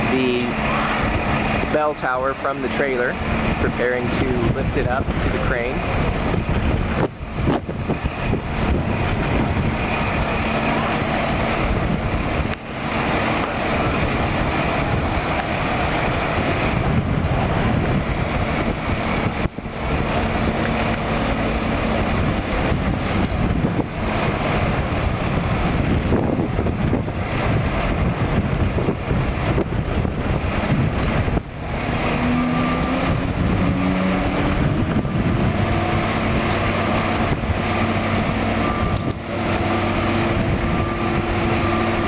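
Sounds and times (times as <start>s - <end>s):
diesel engine running: 0.0s - 42.0s
wind noise on microphone: 0.0s - 42.0s.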